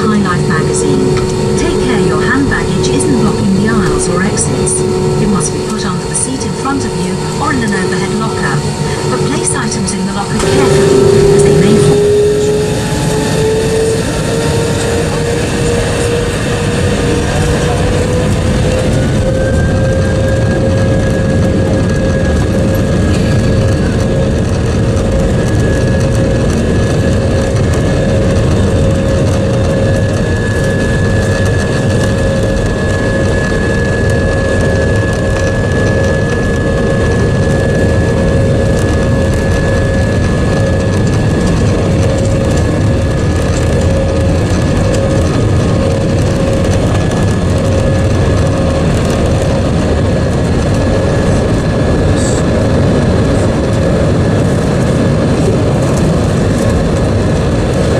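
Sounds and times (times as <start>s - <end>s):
jet engines heard in cabin: 0.0s - 57.9s.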